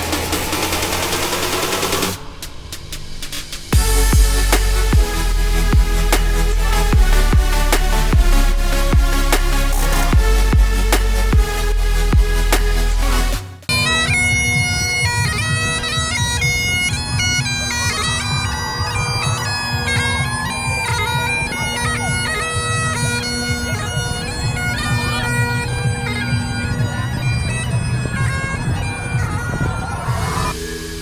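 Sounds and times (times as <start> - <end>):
bagpipes playing a tune: 3.8 - 12.5, 13.7 - 30.6.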